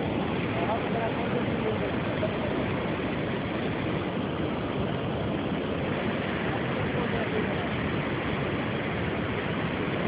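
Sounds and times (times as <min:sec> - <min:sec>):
floodwater roaring through dam gates: 0:00.0 - 0:10.0.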